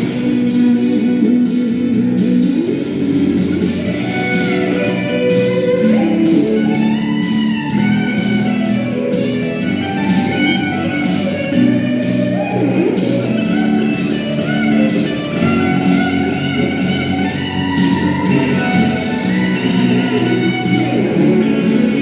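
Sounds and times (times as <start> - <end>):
electric guitar rock melody: 0.0 - 22.0.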